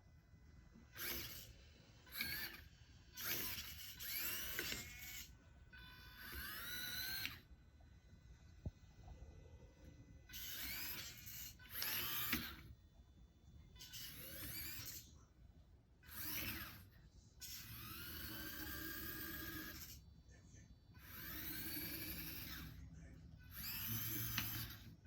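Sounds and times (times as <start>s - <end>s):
small electric motors whirring: 0.1s - 15.3s, 16.0s - 25.0s.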